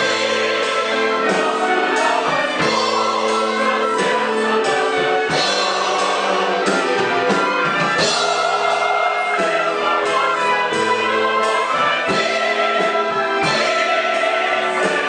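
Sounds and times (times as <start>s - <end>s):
choir singing: 0.0s - 15.0s
orchestra with violins: 0.0s - 15.0s.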